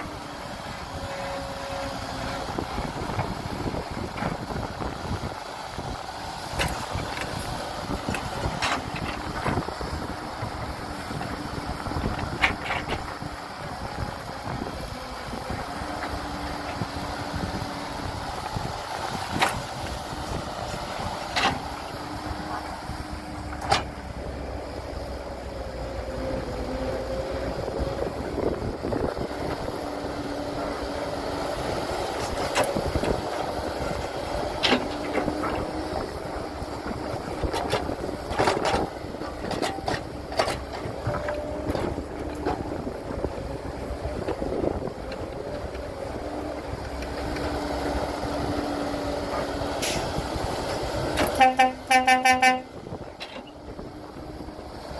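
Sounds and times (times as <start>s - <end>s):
diesel engine of heavy machinery: 0.0s - 54.9s.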